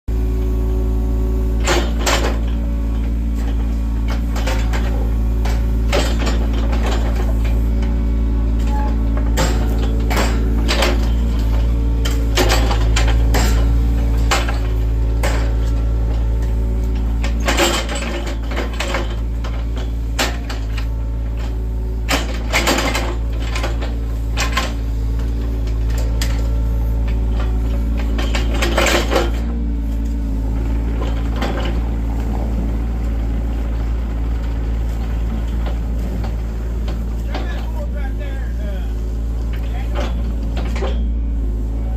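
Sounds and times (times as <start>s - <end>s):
excavator diesel engine running: 0.1s - 41.9s
metallic clanks and knocks: 1.6s - 7.6s, 8.6s - 29.6s, 30.5s - 38.0s, 39.4s - 41.2s.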